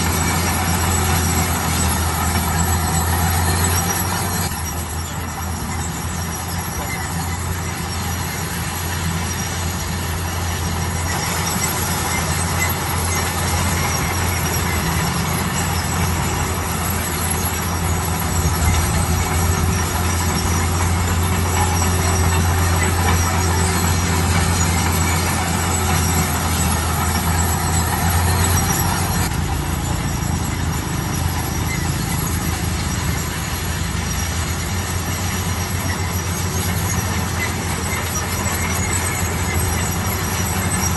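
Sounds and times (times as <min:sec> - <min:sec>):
construction machinery engine hum: 0:00.0 - 0:40.9.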